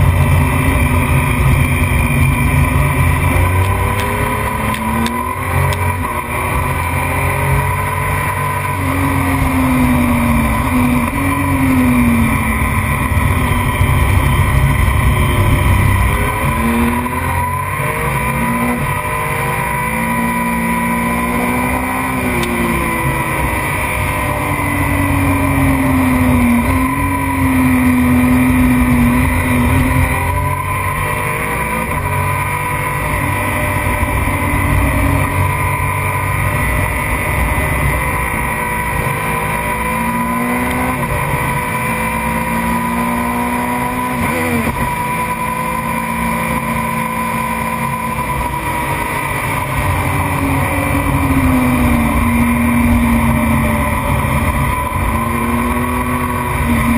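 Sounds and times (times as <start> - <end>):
racing motorcycle engine: 0.0 - 56.9.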